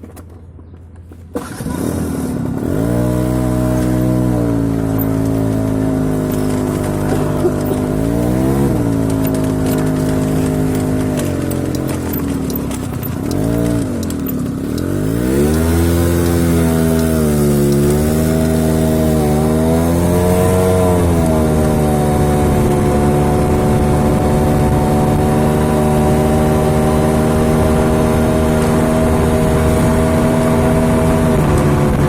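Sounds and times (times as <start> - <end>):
vehicle engine accelerating: 0.0 - 32.0.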